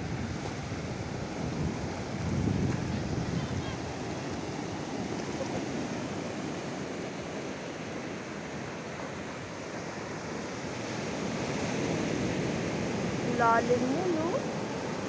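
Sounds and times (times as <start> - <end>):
ocean surf breaking over rocks: 0.0 - 15.0.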